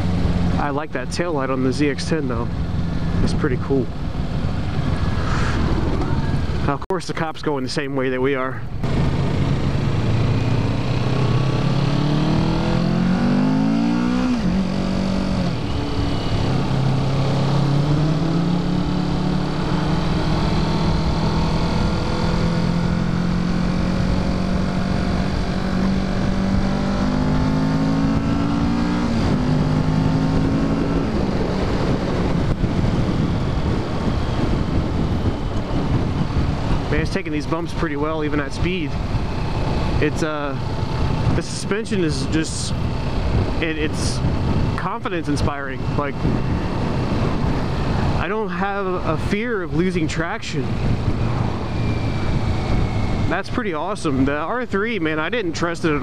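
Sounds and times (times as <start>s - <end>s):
wind noise on microphone: 2.7s - 6.8s, 8.8s - 54.3s
motorcycle engine revving: 8.7s - 49.9s, 50.6s - 56.0s.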